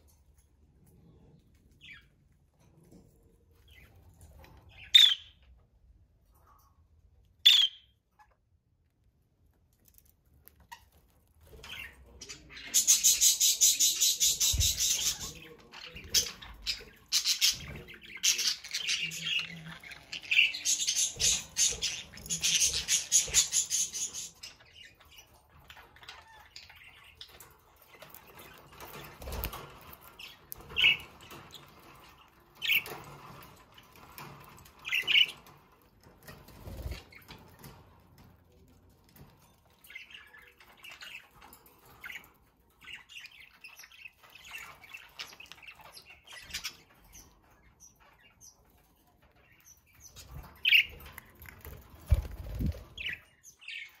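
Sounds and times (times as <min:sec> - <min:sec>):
budgerigars chirping and chattering: 0:01.8 - 0:02.2, 0:03.6 - 0:05.6, 0:07.4 - 0:08.5, 0:10.6 - 0:37.8, 0:39.2 - 0:54.0.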